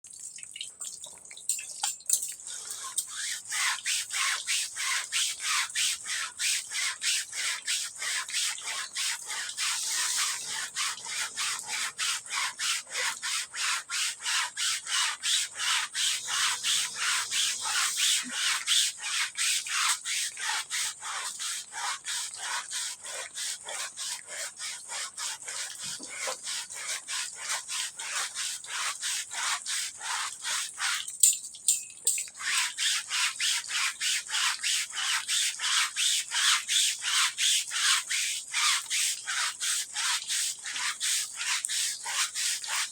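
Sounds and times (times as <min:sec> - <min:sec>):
stiff brush scrubbing carpet: 0:03.3 - 0:31.0, 0:32.8 - 0:42.9.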